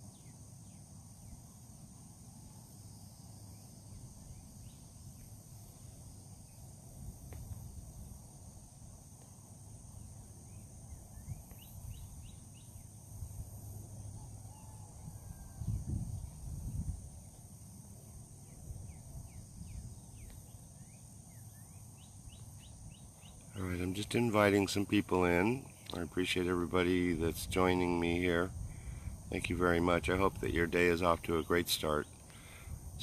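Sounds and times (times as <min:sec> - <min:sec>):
high insect drone: 0:00.0 - 0:33.0.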